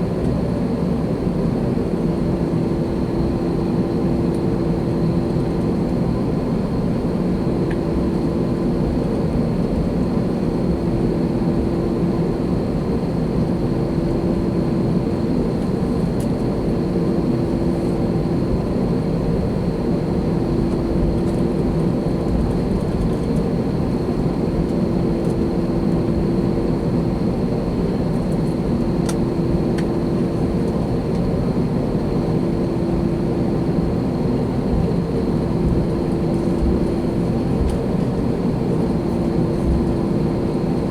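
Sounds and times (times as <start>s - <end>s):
airplane cabin engine hum: 0.0s - 40.9s.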